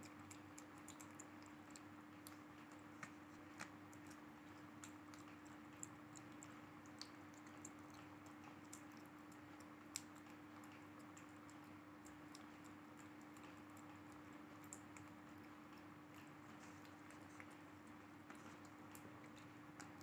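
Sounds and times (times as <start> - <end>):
kitten eating from plastic tub: 0.0 - 20.0
low steady hum: 0.0 - 20.0.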